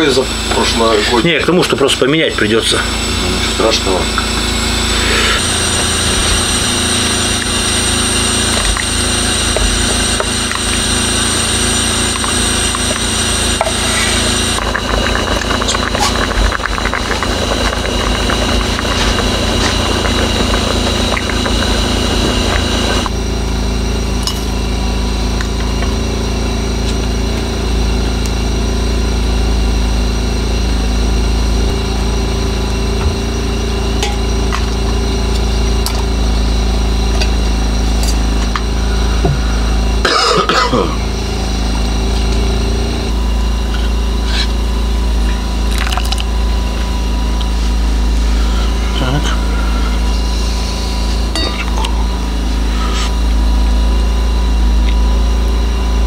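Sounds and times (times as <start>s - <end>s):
portable generator running: 0.0s - 56.0s.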